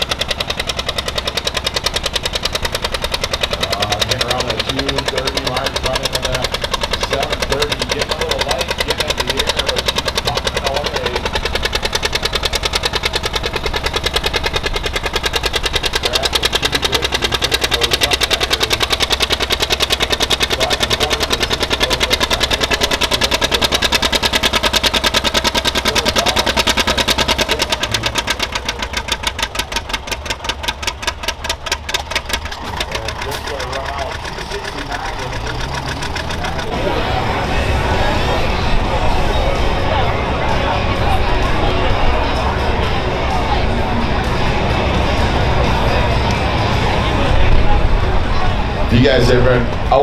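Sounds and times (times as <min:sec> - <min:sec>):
tractor engine running hard: 0:00.0 - 0:50.0.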